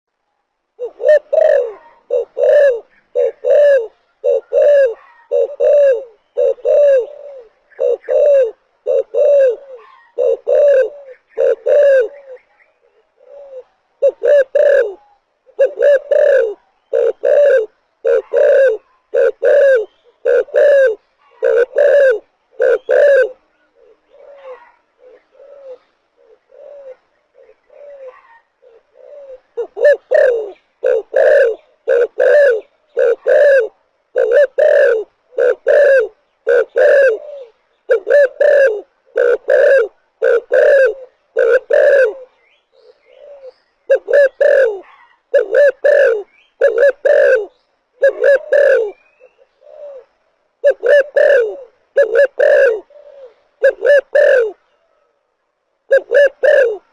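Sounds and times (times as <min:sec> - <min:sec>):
dove cooing: 0:00.8 - 0:55.3, 0:55.9 - 0:56.9.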